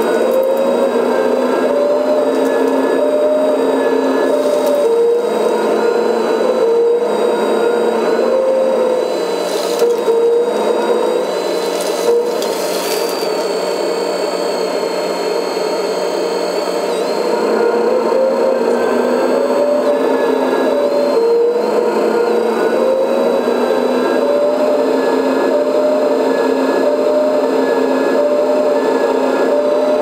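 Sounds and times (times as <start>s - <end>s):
hydraulic pump whining: 0.0s - 30.0s.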